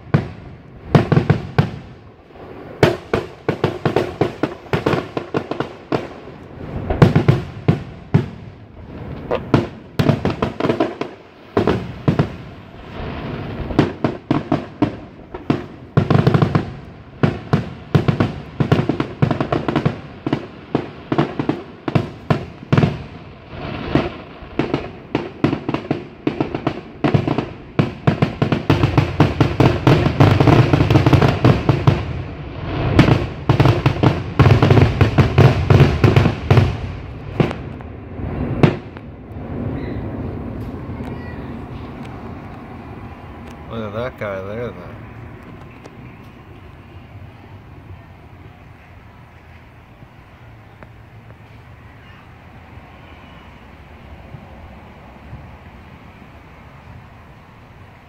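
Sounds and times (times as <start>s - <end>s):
fireworks bangs and crackling: 0.0s - 52.3s.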